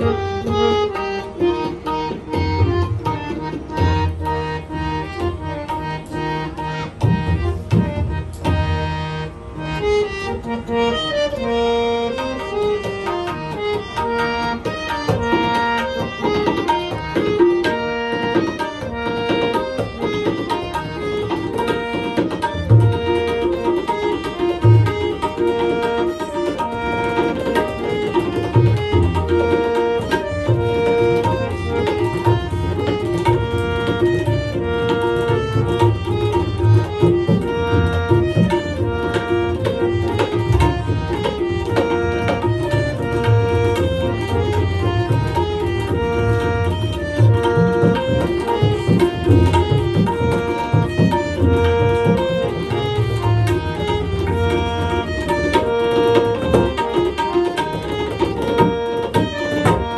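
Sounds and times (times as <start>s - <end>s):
harmonium melody: 0.0s - 59.9s.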